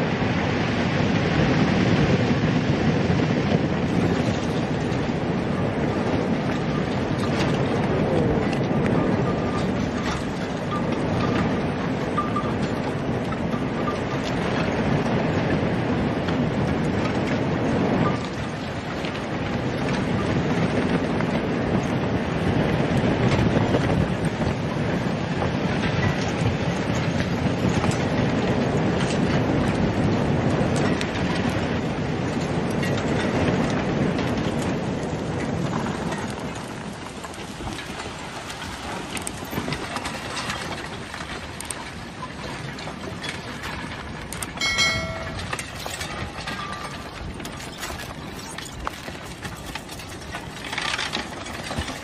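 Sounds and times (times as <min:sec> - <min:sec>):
wind on microphone: 0:00.0 - 0:52.0.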